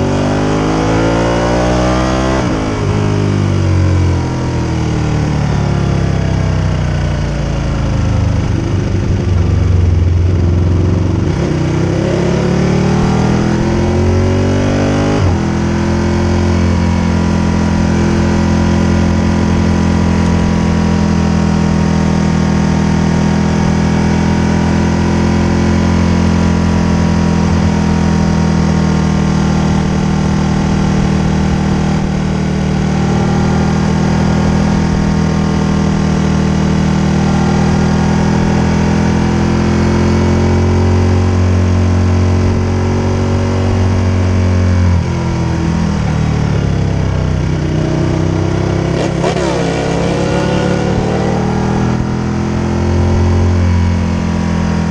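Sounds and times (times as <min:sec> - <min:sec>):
motorcycle engine: 0:00.0 - 0:54.9.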